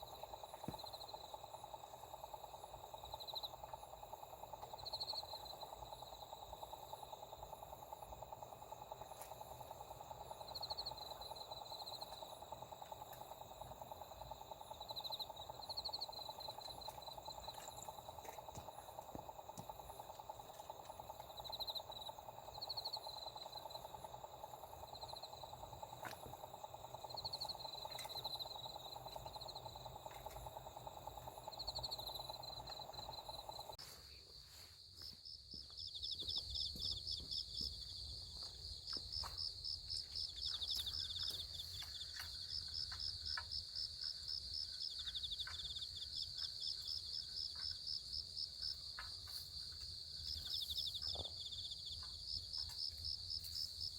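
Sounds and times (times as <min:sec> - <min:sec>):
insects chirping in trills: 0:00.0 - 0:53.9.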